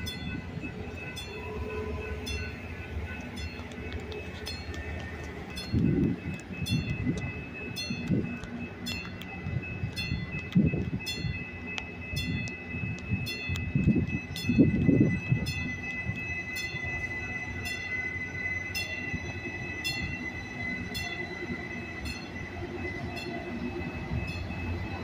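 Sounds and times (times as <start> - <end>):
steady high tone: 0.0 - 25.0
train rumbling into station: 0.0 - 25.0.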